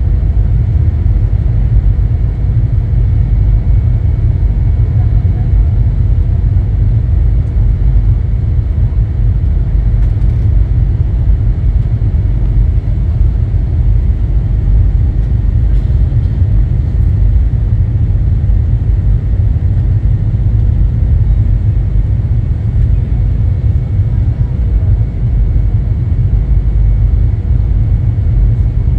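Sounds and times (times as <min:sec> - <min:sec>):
airliner cabin engine rumble: 0:00.0 - 0:28.9
faint steady whine: 0:00.0 - 0:28.9.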